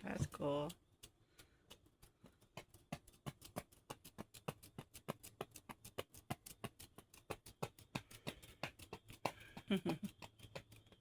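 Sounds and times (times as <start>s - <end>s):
slinky coils clicking: 0.0s - 11.0s.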